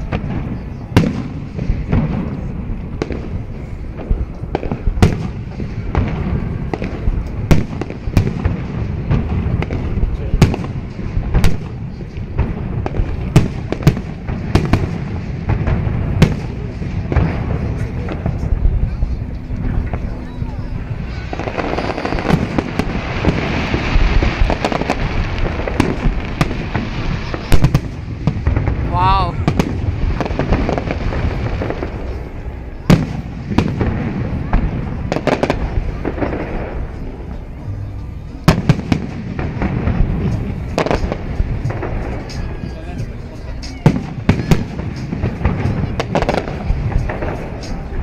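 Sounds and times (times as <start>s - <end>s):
fireworks bangs: 0.0s - 48.0s
low rumble: 0.0s - 48.0s.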